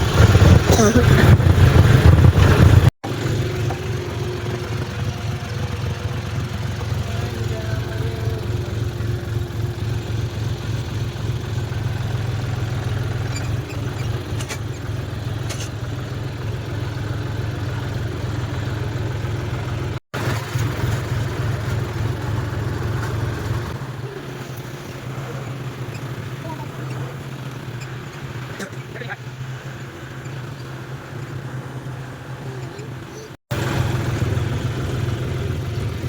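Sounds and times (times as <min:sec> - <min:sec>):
tractor engine droning: 0:00.0 - 0:36.0.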